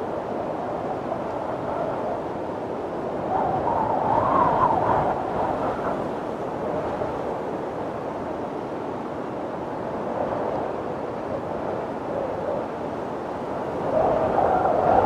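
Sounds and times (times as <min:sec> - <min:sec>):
snowstorm wind gusting: 0:00.0 - 0:15.0.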